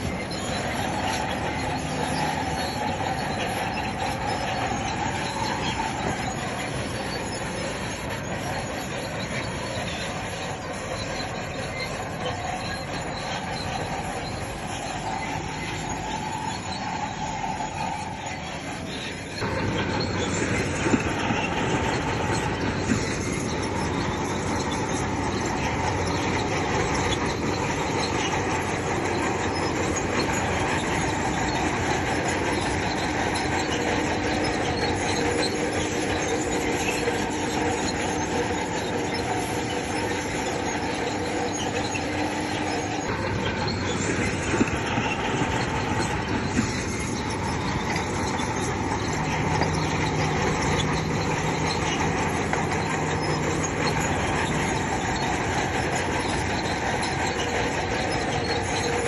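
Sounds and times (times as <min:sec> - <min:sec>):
bulldozer engine running: 0:00.0 - 0:59.0
steel tracks clanking: 0:00.0 - 0:59.0.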